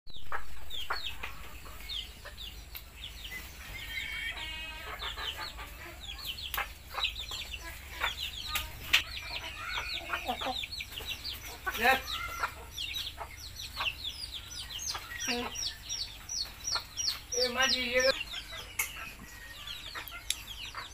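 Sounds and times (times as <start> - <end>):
beaks pecking on concrete: 0.1 - 20.9
chicken clucking: 0.1 - 20.9
chicks peeping: 0.1 - 20.9.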